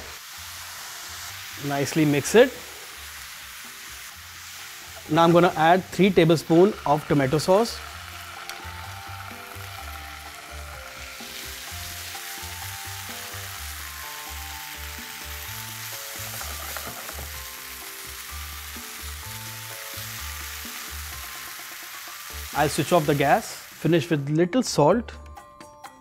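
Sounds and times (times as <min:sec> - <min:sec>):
sauce sizzling and bubbling in pan: 0:00.0 - 0:24.1.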